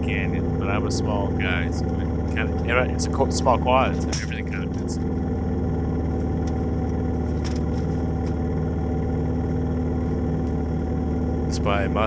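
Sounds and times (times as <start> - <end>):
quad engine idling: 0.0 - 12.0.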